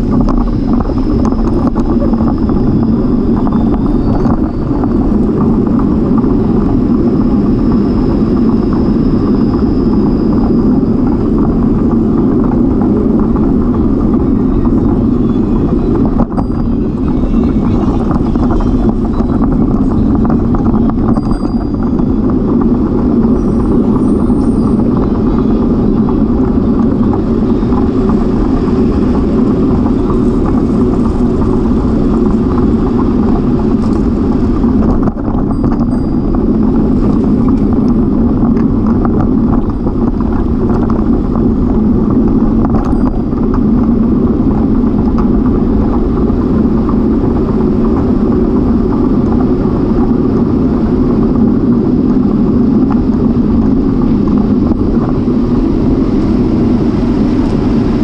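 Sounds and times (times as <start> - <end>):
road noise from bicycle: 0.0 - 58.0
wind rushing on microphone: 0.0 - 58.0.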